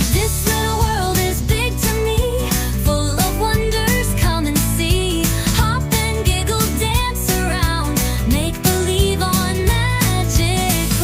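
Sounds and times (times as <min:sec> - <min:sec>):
pop song with singing over a beat: 0:00.0 - 0:11.0.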